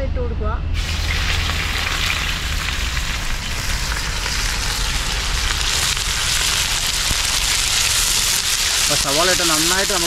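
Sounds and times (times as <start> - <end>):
onions sizzling in hot oil: 0.8 - 10.0.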